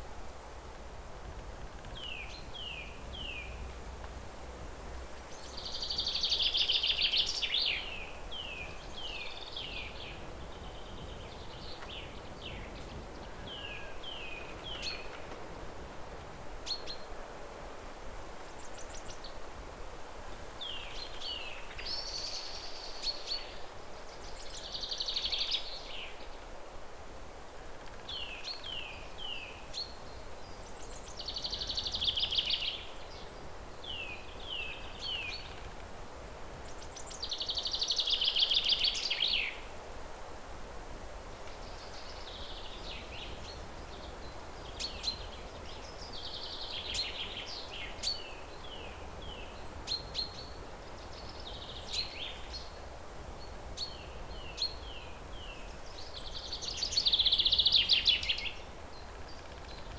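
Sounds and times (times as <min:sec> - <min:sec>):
songbirds singing: 0:00.0 - 0:17.3, 0:17.9 - 0:26.5, 0:27.5 - 0:39.9, 0:40.7 - 0:59.9
low background noise: 0:00.0 - 0:59.9.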